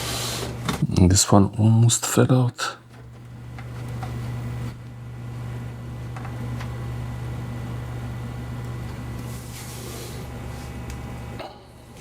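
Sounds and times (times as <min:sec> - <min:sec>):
low hum of drives and fans: 0:00.0 - 0:12.0.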